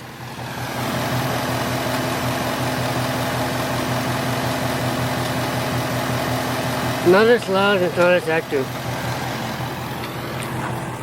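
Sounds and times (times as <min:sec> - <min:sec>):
car engine idling: 0:00.0 - 0:11.0
engine ticking: 0:00.0 - 0:11.0.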